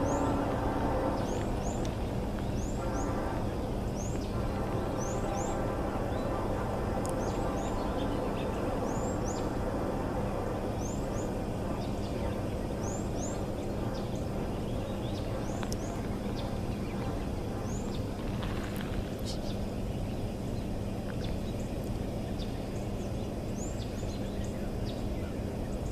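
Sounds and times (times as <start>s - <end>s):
low hum and rumble: 0.0s - 25.9s.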